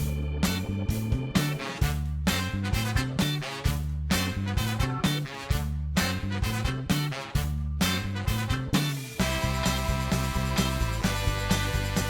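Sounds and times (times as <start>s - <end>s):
upbeat swing music with brass: 0.0s - 12.0s.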